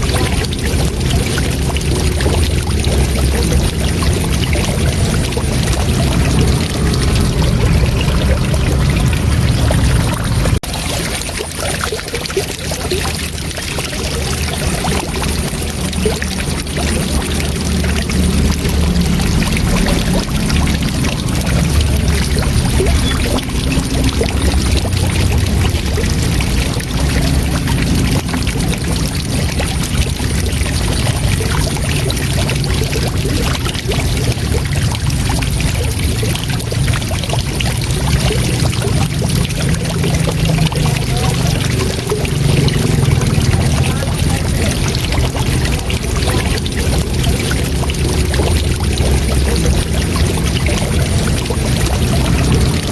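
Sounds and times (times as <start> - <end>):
waterfall roaring: 0.0 - 52.9.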